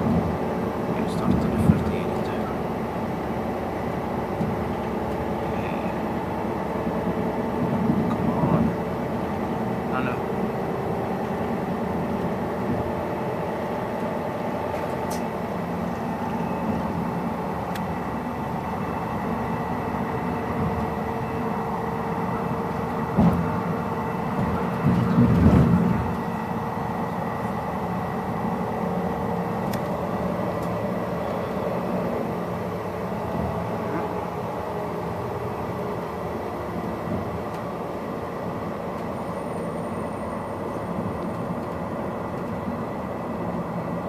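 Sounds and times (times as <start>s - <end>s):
railbus engine drone: 0.0s - 44.0s.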